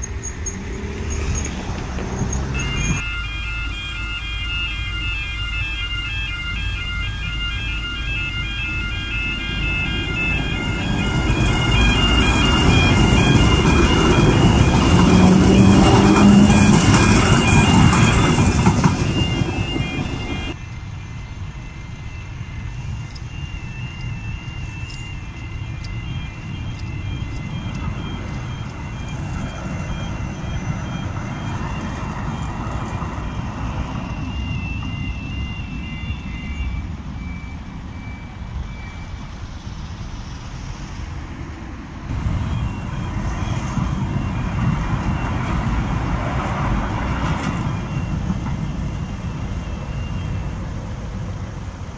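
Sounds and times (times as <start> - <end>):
crossing alarm pulsed high tones: 0.0 - 41.2, 42.1 - 51.9
road traffic rumble: 0.0 - 51.9.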